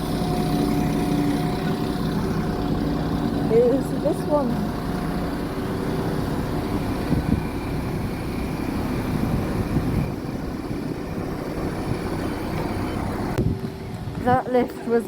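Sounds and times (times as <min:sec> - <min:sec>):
diesel train engine rumbling: 0:00.0 - 0:15.0.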